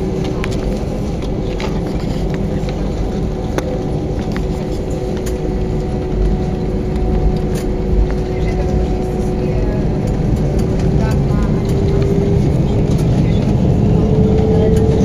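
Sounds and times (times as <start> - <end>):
aircraft cabin engine rumble: 0.0 - 15.0.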